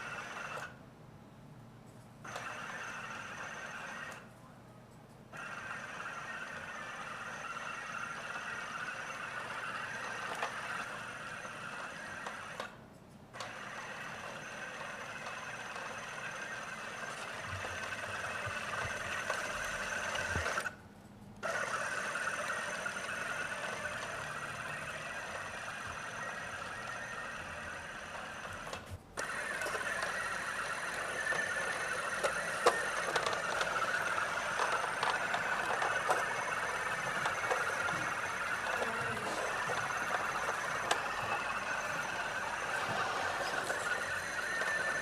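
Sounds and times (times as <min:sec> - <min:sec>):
robot vacuum whirring: 0:00.0 - 0:00.7, 0:02.2 - 0:04.2, 0:05.3 - 0:12.8, 0:13.4 - 0:20.8, 0:21.4 - 0:45.0.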